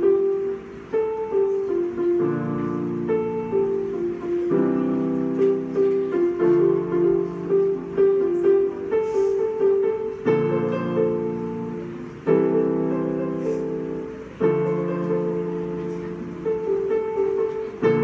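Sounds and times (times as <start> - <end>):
electronic keyboard piano melody: 0.0 - 18.0.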